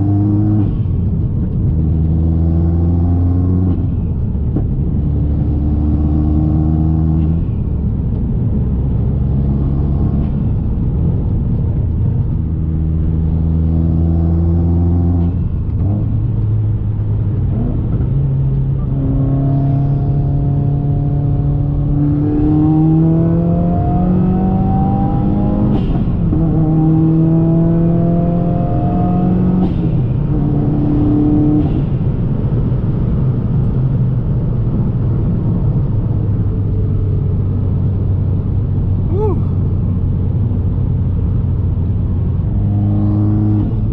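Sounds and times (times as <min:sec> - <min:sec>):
car engine revving: 0:00.0 - 0:32.6, 0:33.4 - 0:43.9.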